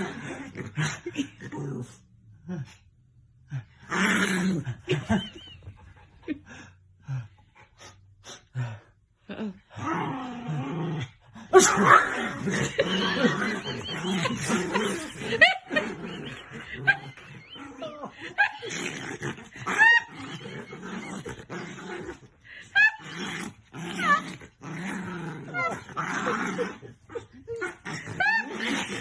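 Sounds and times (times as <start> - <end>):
dog growling and yipping: 0.0 - 2.8, 3.6 - 6.0, 9.5 - 29.0.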